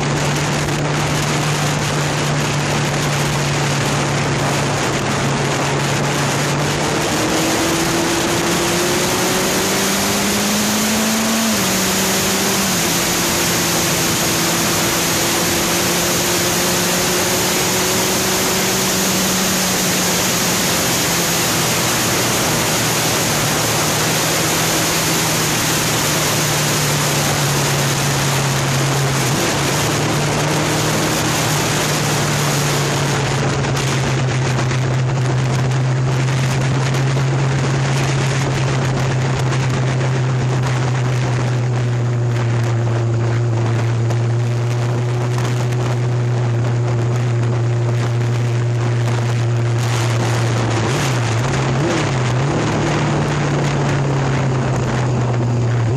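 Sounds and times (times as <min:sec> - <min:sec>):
motorbike engine running: 0:00.0 - 0:55.9
wind noise on microphone: 0:00.0 - 0:55.9.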